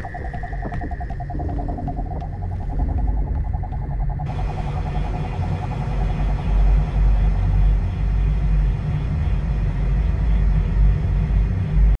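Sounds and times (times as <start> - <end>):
deep steady rumble: 0.0 - 12.0.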